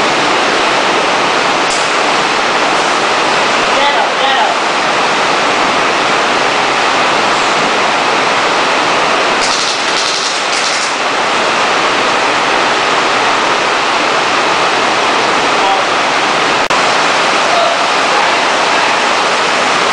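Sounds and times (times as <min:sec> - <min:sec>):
heavy rain hiss: 0:00.0 - 0:19.9.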